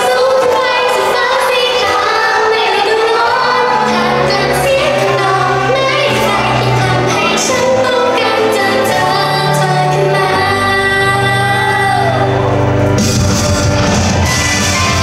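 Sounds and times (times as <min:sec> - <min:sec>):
person singing: 0:00.0 - 0:13.0, 0:14.1 - 0:15.0
live pop song: 0:00.0 - 0:15.0.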